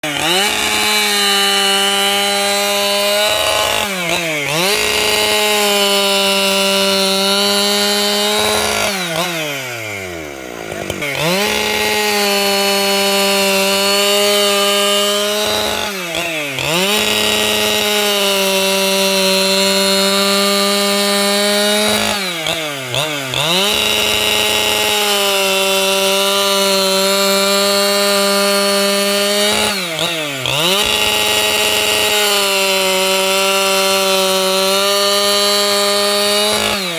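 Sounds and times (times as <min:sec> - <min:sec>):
chainsaw cutting timber: 0:00.0 - 0:36.9.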